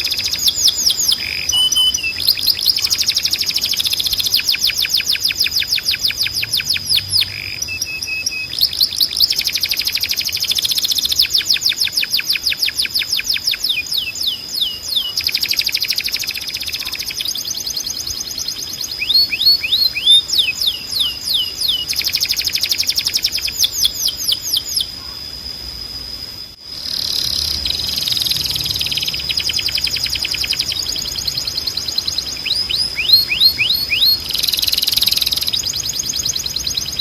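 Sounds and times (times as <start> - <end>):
canary singing: 0.0 - 25.2, 26.8 - 37.0.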